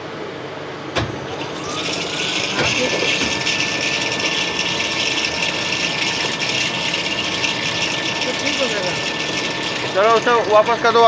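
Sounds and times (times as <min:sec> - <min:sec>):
gearbox whine: 0:01.0 - 0:11.0.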